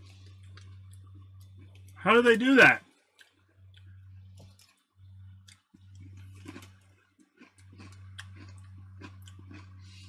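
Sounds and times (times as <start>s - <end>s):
person chewing crunchy snack: 0.0s - 2.0s, 3.0s - 10.0s
low electrical hum: 0.0s - 10.0s.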